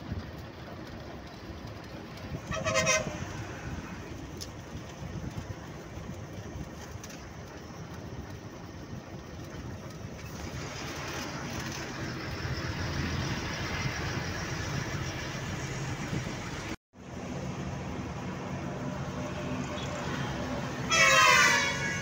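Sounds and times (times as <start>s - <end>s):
vehicle road and engine noise: 0.0s - 22.0s.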